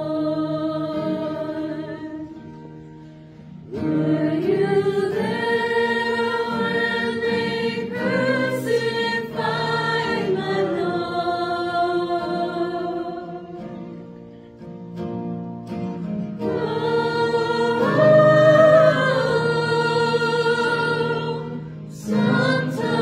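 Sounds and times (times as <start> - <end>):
choir singing in harmony: 0.0 - 2.6, 3.6 - 14.2, 16.4 - 23.0.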